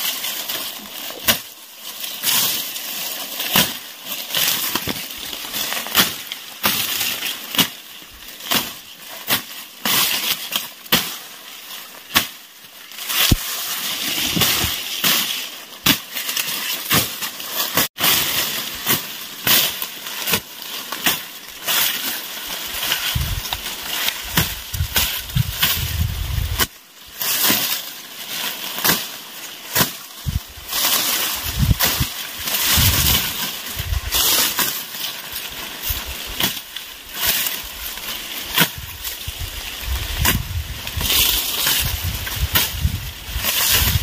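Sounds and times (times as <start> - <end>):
machete chopping dry grass: 0.0 - 11.3, 12.1 - 44.0
grass rustling and crackling: 0.0 - 44.0.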